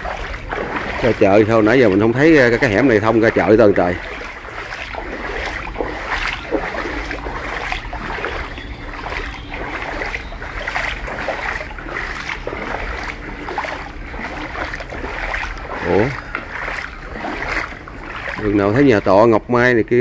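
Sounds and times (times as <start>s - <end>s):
footsteps wading through water: 0.0s - 20.0s.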